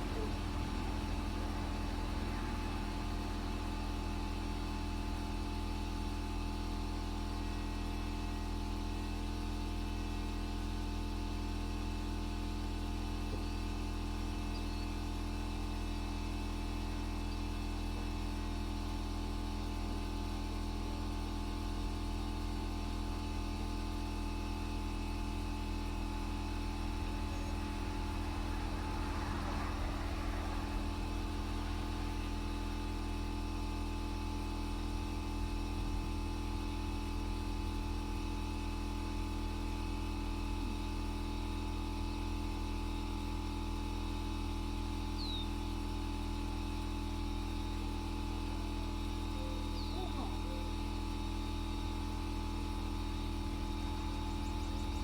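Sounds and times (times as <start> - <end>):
machine low hum: 0.0 - 55.0.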